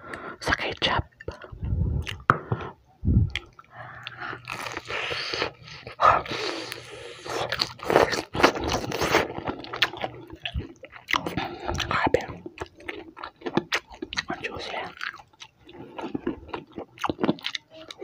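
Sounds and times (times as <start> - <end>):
chewing crunchy fried chicken: 3.4 - 18.0.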